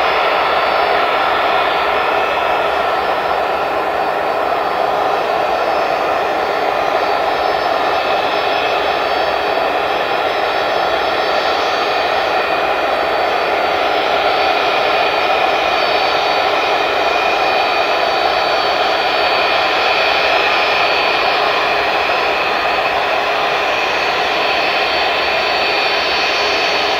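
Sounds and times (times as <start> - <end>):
jet engines at taxi power: 0.0 - 26.9.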